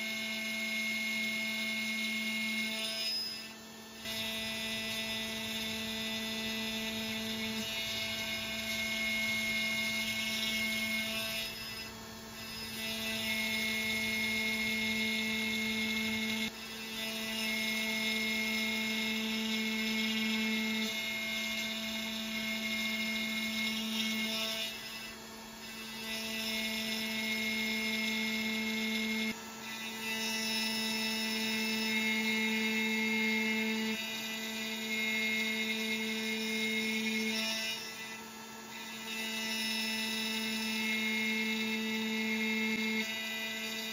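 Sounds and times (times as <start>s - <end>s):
milling machine whine: 0.0s - 43.9s.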